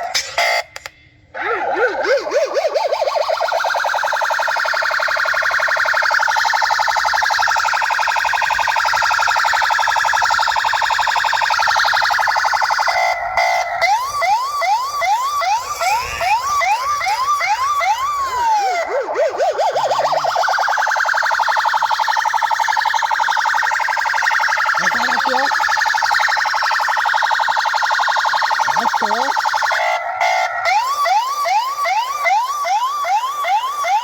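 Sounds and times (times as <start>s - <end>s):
electronic siren yelping and warbling: 0.0s - 34.0s.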